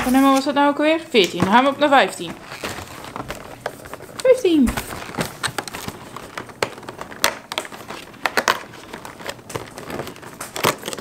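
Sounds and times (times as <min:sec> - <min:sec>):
cardboard packaging crinkling: 0:01.2 - 0:11.0.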